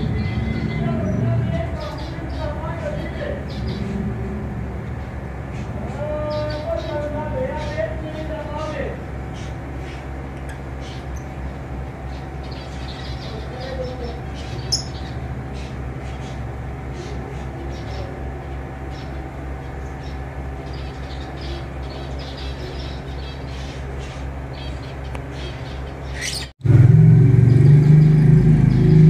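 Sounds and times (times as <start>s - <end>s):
lovebirds chirping: 0.0s - 26.6s
steady low hum: 0.0s - 29.0s.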